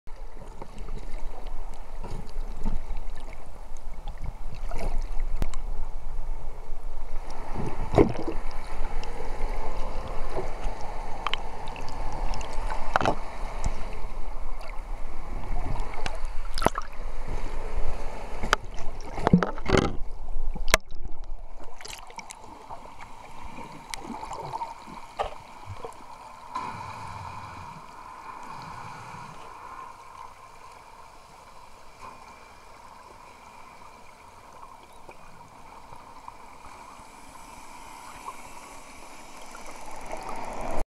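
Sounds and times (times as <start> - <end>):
underwater gurgling and rushing: 0.1 - 40.8.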